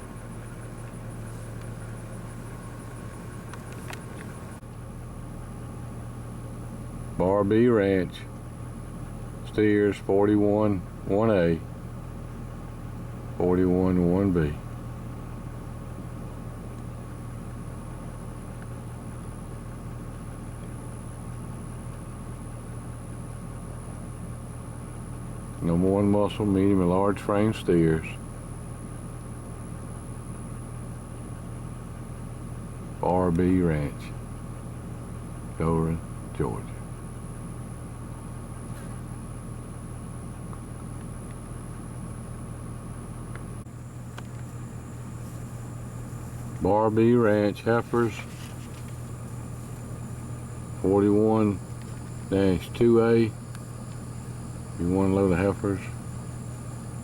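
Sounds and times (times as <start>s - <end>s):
faint high whine: 0.0s - 11.7s, 16.7s - 57.0s
low background hum: 0.0s - 57.0s.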